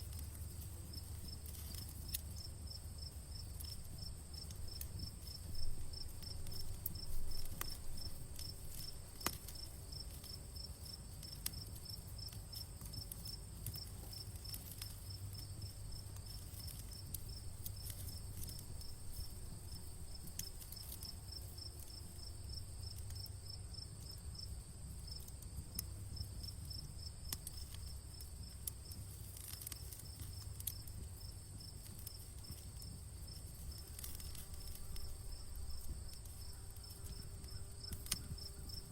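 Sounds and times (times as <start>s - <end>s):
campfire popping and crackling: 0.0s - 38.9s
crickets chirping: 0.0s - 38.9s.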